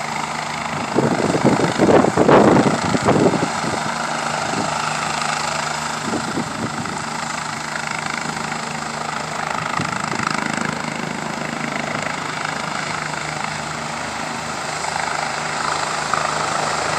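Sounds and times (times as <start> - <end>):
helicopter drone: 0.0 - 16.9.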